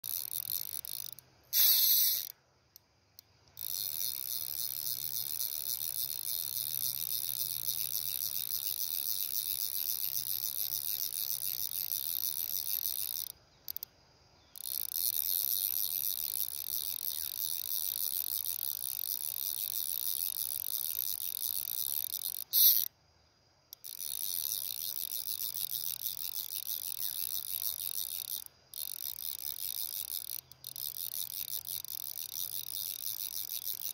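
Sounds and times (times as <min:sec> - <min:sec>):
insect chorus shrilling: 0:00.1 - 0:02.3, 0:03.6 - 0:22.9, 0:23.8 - 0:33.9.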